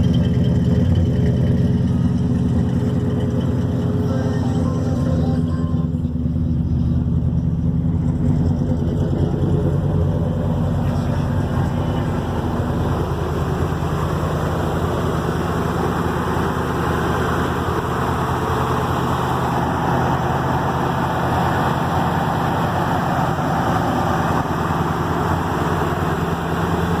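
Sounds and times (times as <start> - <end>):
pickup truck engine idling: 0.0 - 27.0.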